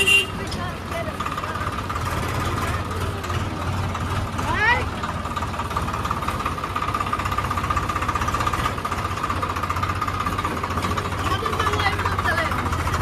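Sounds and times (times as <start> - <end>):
diesel tractor engine clattering: 0.0 - 13.0.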